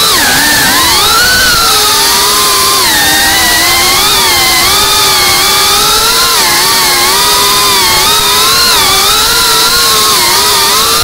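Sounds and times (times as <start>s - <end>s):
drone motors and propellers whining: 0.0s - 11.0s.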